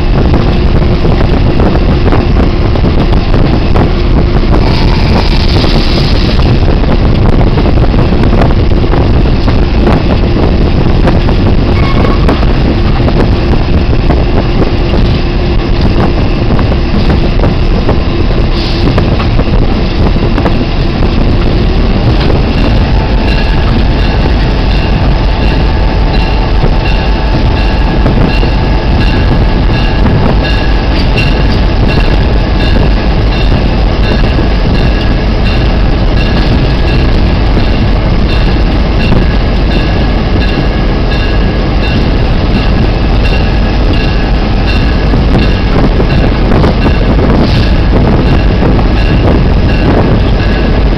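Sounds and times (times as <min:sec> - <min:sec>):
diesel locomotive engine: 0:00.0 - 0:50.9
rail clicks: 0:00.0 - 0:50.9.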